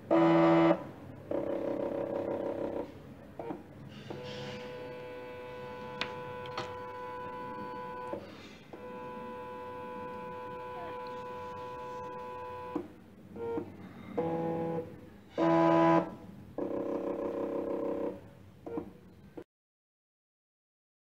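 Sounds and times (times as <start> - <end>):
stepper motor whining: 0.0 - 18.8.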